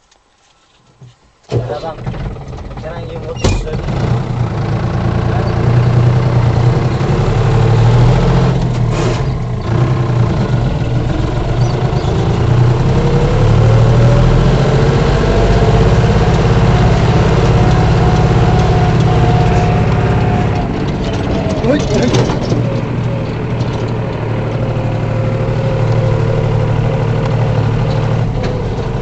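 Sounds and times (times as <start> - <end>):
tractor engine running: 1.5 - 29.0
rising whine: 4.0 - 29.0.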